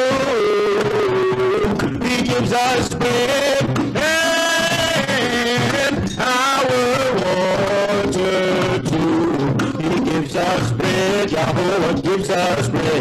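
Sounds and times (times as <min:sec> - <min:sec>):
drum beat: 0:00.0 - 0:13.0
instrumental accompaniment: 0:00.0 - 0:13.0
voices singing worship song: 0:00.0 - 0:13.0.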